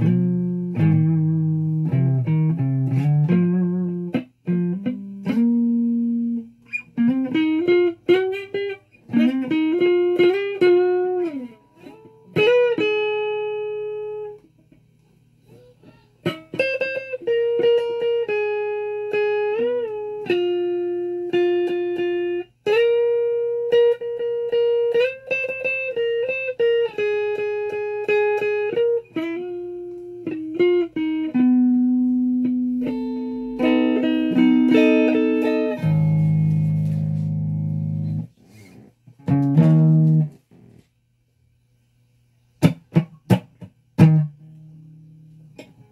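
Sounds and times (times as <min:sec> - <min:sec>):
electric guitar slow melody: 0:00.0 - 0:40.4, 0:42.6 - 0:45.9.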